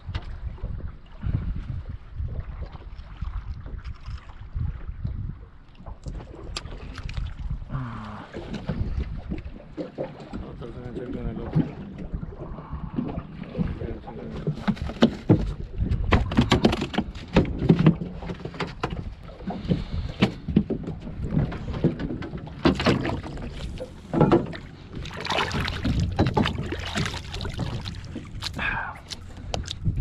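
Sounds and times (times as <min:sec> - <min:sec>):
boat knocks and clatter: 0:00.0 - 0:07.7, 0:08.3 - 0:30.0.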